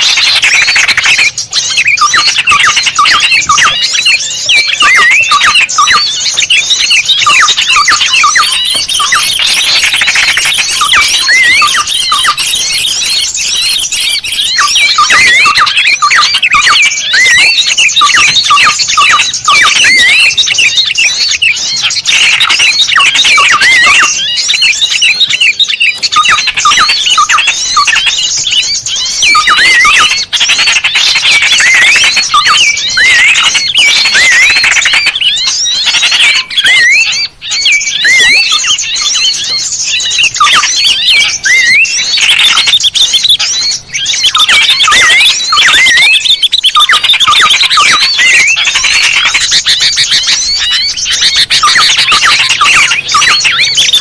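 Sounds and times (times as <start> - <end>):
chorus of small birds chirping: 0.0 - 54.0.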